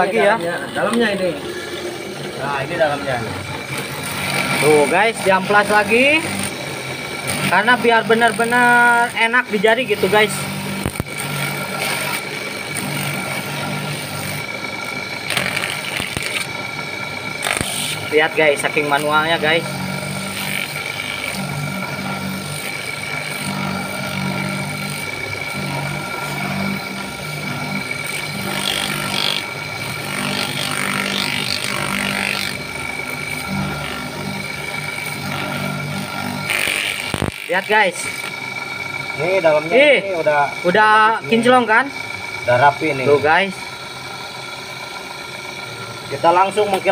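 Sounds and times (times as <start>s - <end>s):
electric motor humming and whining: 0.0s - 46.9s
abrasive rasping on metal: 1.4s - 39.4s.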